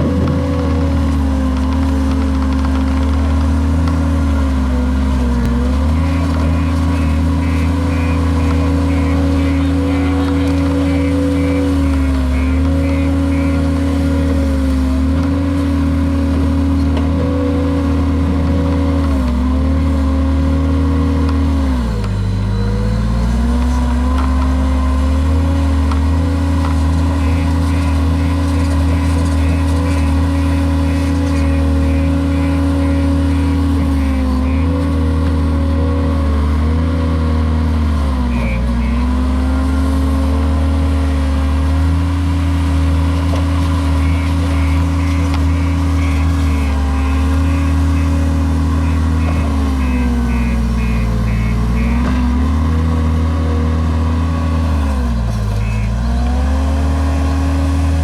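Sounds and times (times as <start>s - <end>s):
loader diesel engine revving: 0.0s - 58.0s.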